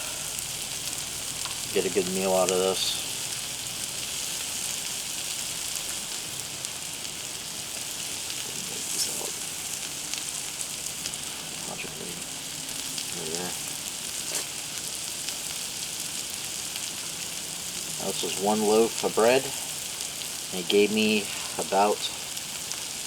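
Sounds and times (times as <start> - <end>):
butter and cheese sizzling on griddle: 0.0 - 23.0.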